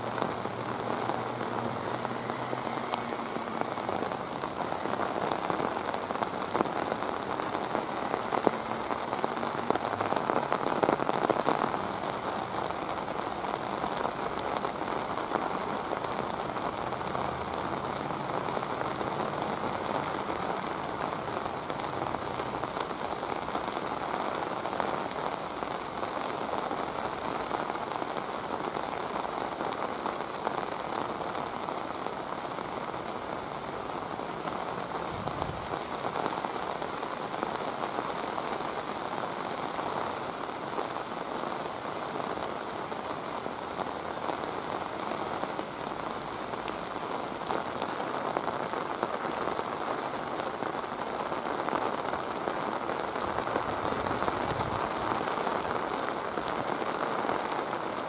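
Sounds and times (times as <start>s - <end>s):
rain falling through palm trees: 0.0s - 58.0s.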